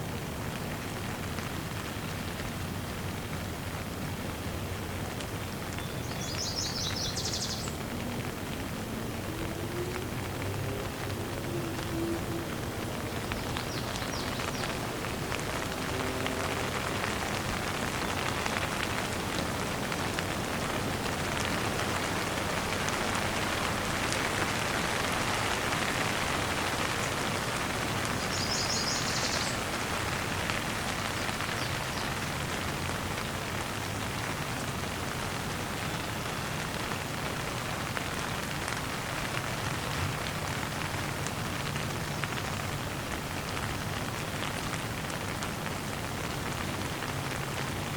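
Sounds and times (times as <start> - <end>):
rain pattering on surfaces: 0.0 - 47.9.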